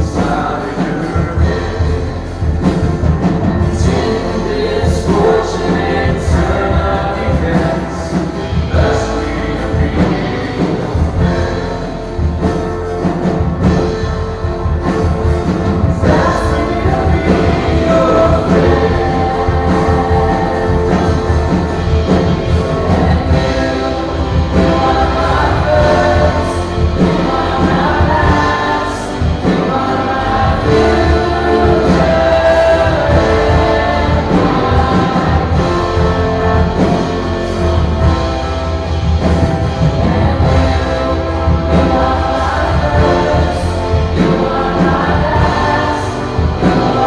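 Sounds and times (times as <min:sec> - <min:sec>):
congregation singing along: 0:00.0 - 0:47.0
lead singer: 0:00.0 - 0:47.0
worship band playing: 0:00.0 - 0:47.0.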